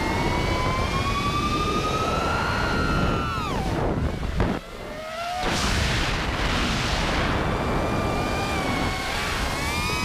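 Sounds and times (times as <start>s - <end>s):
drone motors whining: 0.0s - 10.0s
wind rush on microphone: 0.0s - 10.0s.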